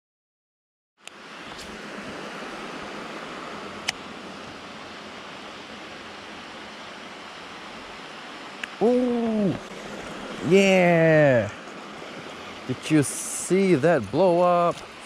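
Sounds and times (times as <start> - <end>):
rushing outdoor background noise: 1.0 - 15.0.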